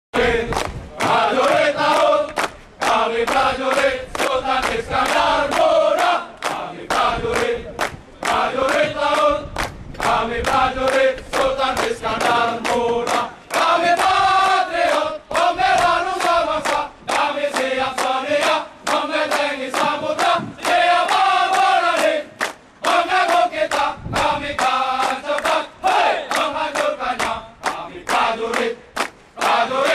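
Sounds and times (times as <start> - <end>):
group singing a march in chorus: 0.2 - 29.9
hands clapping in time: 0.4 - 25.6, 26.3 - 29.9.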